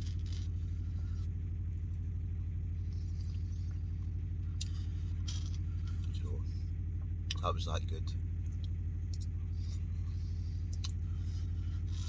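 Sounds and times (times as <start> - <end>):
engine throbbing drone: 0.0 - 12.0.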